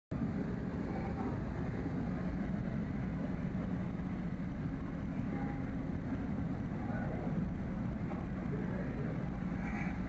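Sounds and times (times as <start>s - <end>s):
ship engines rumbling: 0.1s - 10.0s.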